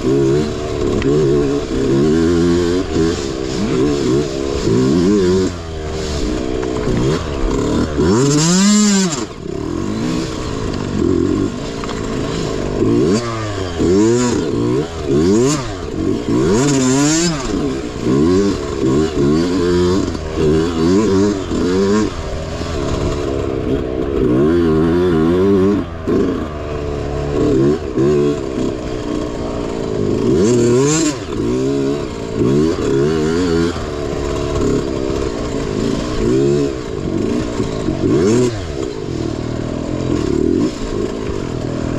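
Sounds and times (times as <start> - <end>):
bike rattling: 0.0 - 41.9
small engine revving: 0.0 - 41.9.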